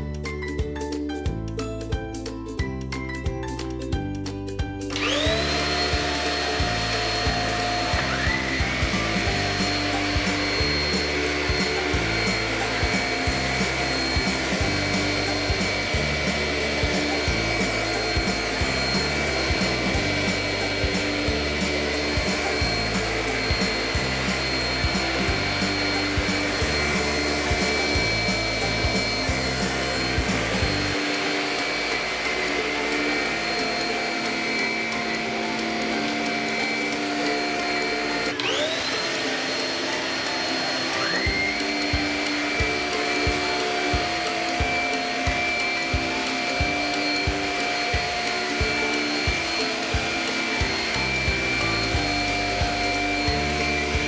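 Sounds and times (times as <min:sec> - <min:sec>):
background music with beat: 0:00.0 - 0:54.0
vacuum cleaner motor whining: 0:04.9 - 0:54.0.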